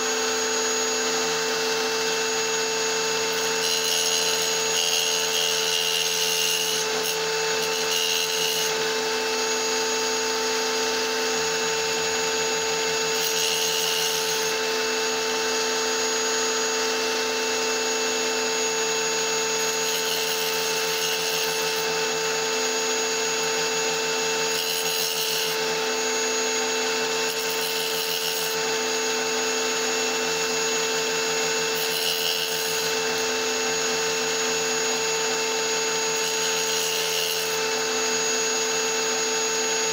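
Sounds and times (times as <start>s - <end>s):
power tool motor whining: 0.0s - 39.9s
stone being cut: 0.0s - 39.9s.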